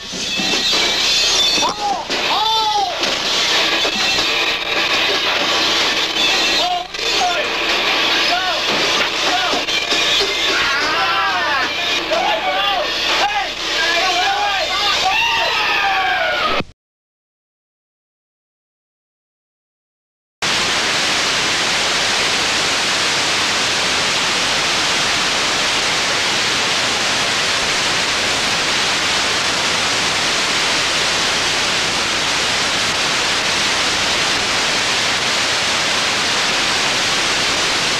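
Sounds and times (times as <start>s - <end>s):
loud static hiss: 0.0s - 16.7s, 20.4s - 37.9s.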